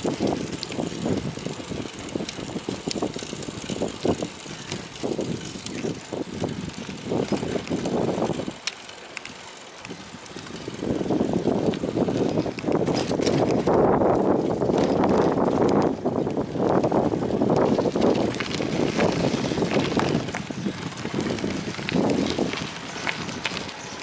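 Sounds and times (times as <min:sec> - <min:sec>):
tyre and road noise: 0:00.0 - 0:24.0
wind buffeting microphone: 0:00.0 - 0:24.0.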